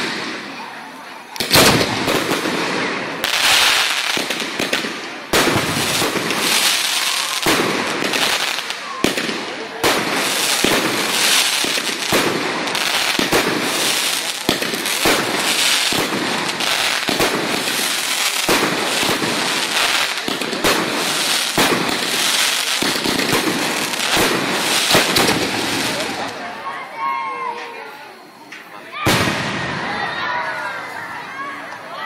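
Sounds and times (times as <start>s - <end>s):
fireworks bangs: 0.0s - 26.6s, 28.6s - 31.0s
fireworks crackling: 0.0s - 32.0s.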